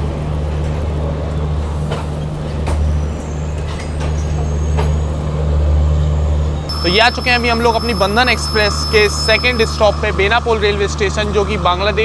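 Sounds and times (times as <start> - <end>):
train rumbling slowly: 0.0 - 12.0.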